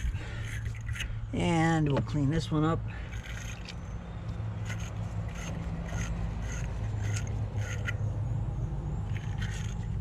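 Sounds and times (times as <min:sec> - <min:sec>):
tool scraping battery terminal: 0:00.0 - 0:02.2, 0:03.0 - 0:08.3, 0:08.9 - 0:10.0.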